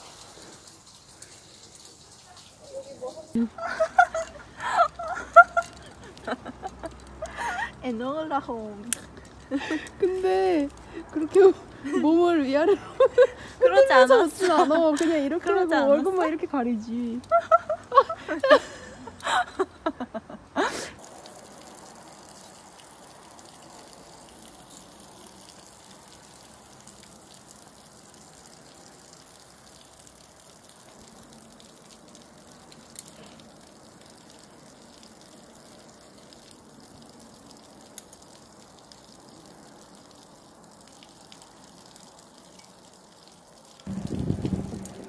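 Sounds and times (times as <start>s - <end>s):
faint outdoor noise: 0.0s - 45.0s.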